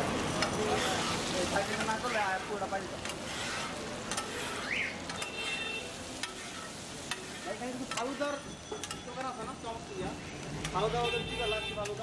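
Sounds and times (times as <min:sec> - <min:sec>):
food sizzling on a griddle: 0:00.0 - 0:12.0
metal spatula scraping griddle: 0:00.2 - 0:10.9.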